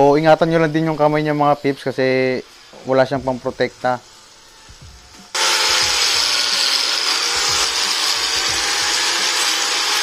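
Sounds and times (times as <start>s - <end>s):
angle grinder wire brushing metal: 0.0s - 10.0s.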